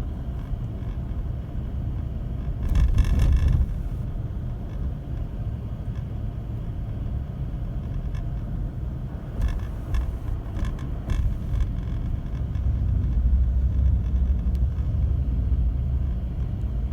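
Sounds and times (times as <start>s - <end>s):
car engine and road rumble: 0.0s - 16.9s.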